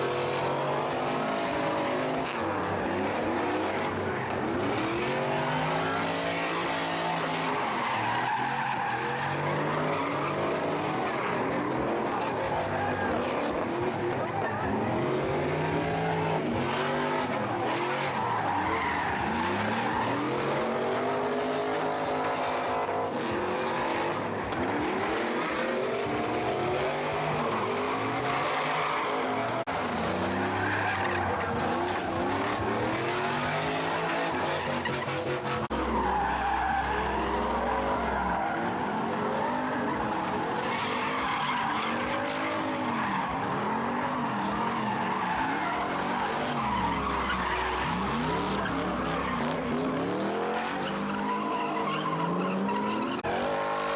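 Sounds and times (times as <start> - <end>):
car engine revving: 0.0 - 53.9
tyres screeching: 4.3 - 53.8.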